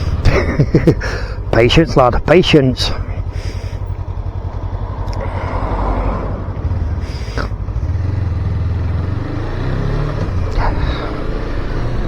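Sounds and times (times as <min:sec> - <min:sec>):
motorcycle engine at low speed: 0:00.0 - 0:12.0.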